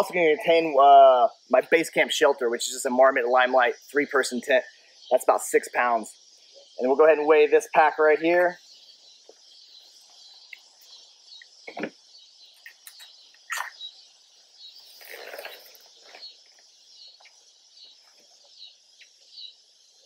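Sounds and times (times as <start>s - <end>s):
birds and insects chirping: 0.0s - 20.0s.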